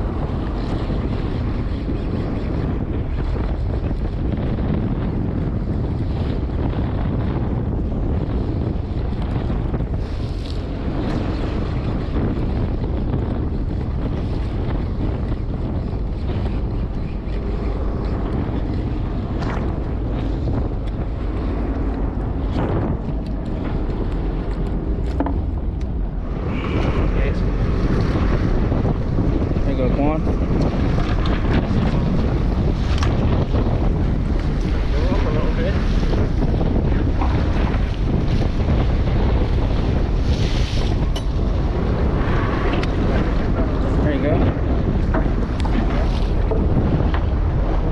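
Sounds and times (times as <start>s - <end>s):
waves washing against hull: 0.0s - 47.9s
wind rumbling on microphone: 0.0s - 47.9s.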